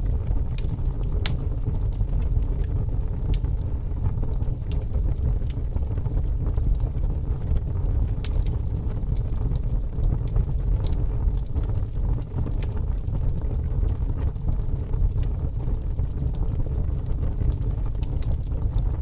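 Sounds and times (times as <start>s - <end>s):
fire burning: 0.0s - 19.0s.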